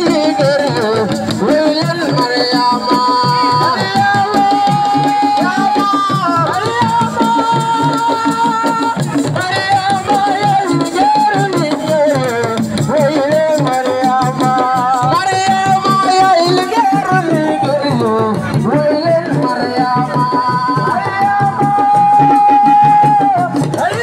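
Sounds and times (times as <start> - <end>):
hand drum and percussion rhythm: 0.0 - 24.0
person singing held lines: 0.0 - 24.0.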